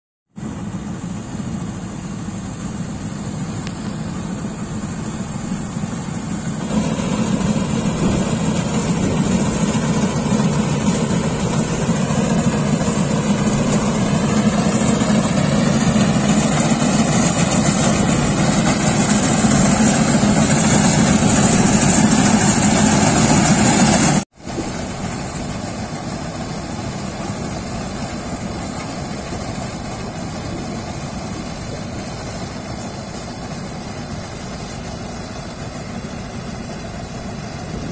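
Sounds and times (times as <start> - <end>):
combine harvester engine running: 0.4 - 37.9.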